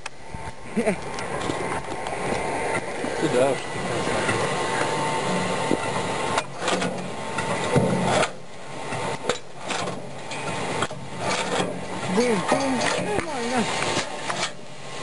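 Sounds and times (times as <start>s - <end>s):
chipper shredding branch: 0.3s - 15.0s.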